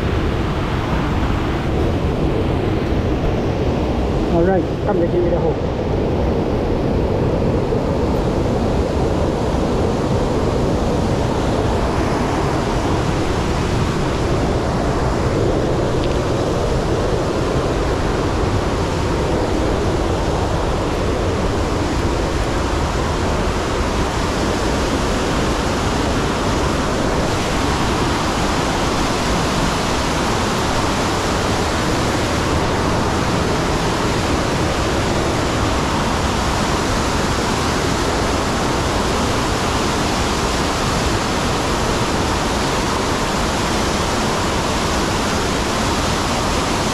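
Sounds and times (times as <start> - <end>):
rush of running water: 0.0 - 46.9.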